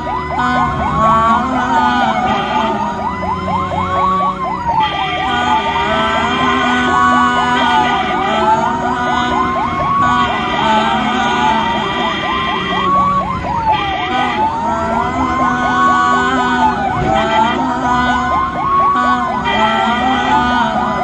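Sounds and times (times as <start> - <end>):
ambulance siren wailing: 0.0 - 21.0
fast warbling siren yelp: 0.0 - 21.0
low traffic rumble: 0.0 - 21.0
steady tone: 0.0 - 21.0.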